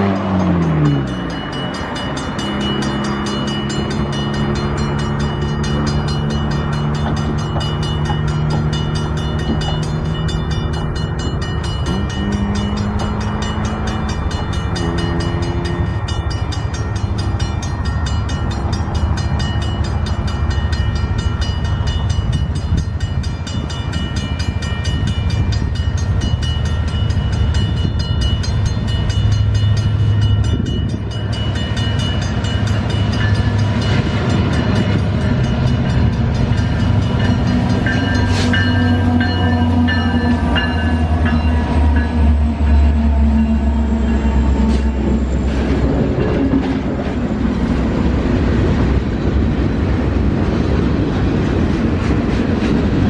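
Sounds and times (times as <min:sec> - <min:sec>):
crossing bell ringing: 0:00.0 - 0:50.8
train rumbling past: 0:00.0 - 0:53.0.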